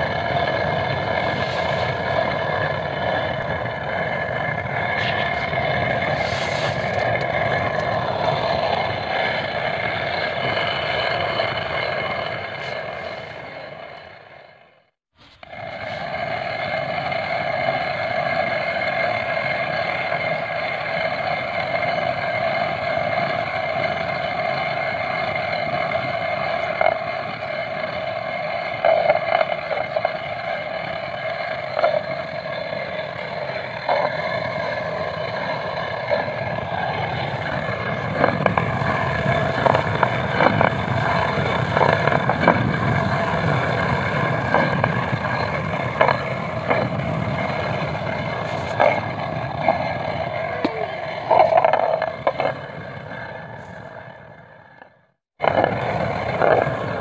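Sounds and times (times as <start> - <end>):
heavy low rumble: 0.0 - 57.0
stone mill grinding drone: 0.0 - 57.0.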